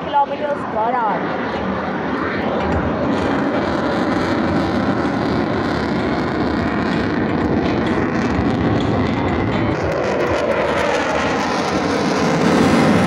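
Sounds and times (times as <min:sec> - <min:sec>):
fighter jet flying overhead: 0:00.0 - 0:13.0.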